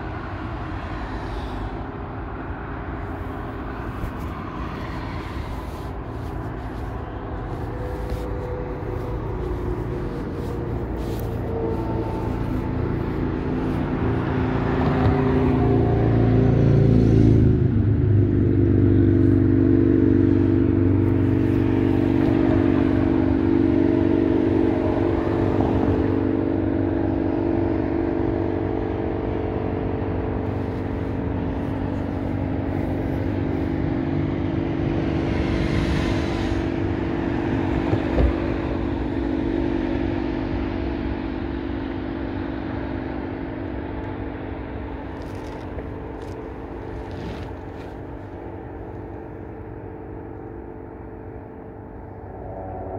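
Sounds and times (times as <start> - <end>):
vehicle passing by: 0.0 - 41.9, 50.9 - 52.9
highway traffic: 0.0 - 52.9.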